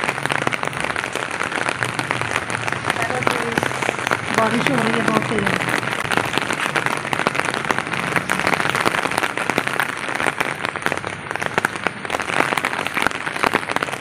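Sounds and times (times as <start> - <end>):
heavy rain on wet pavement: 0.0 - 14.0.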